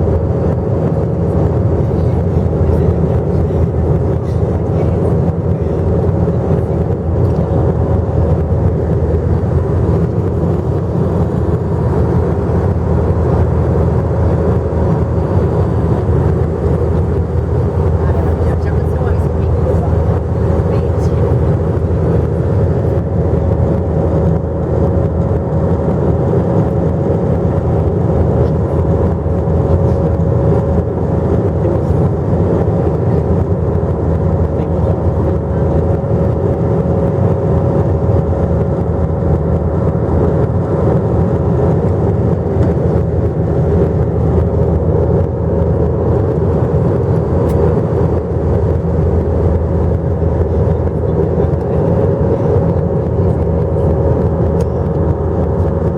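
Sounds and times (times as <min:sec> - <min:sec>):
airliner cabin drone: 0:00.0 - 0:55.9
mid-pitched hum: 0:00.0 - 0:55.9.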